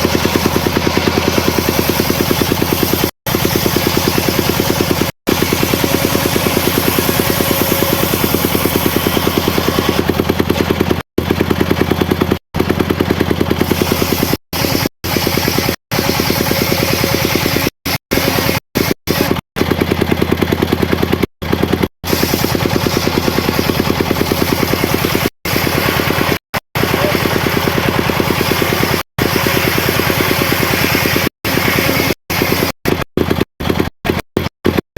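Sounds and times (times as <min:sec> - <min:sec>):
sawmill engine pulsing: 0:00.0 - 0:34.8.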